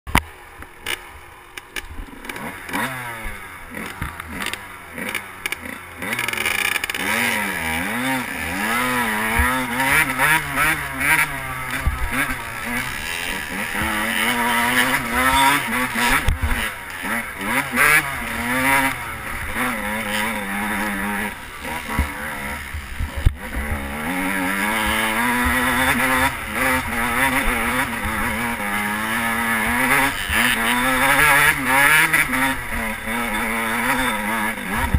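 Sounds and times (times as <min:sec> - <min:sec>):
dirt bike engine revving: 0:00.8 - 0:34.9.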